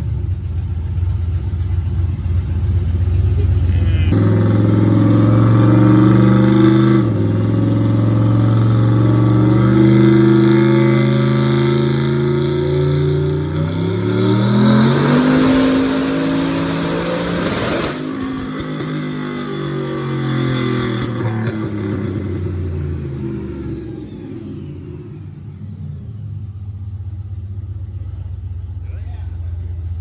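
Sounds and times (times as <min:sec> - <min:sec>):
turbocharged engine revving: 0:02.1 - 0:30.0.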